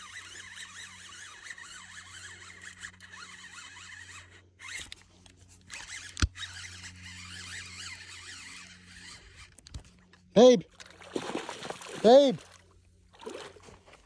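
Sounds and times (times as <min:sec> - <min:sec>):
fishing reel whirring: 0:00.0 - 0:12.3.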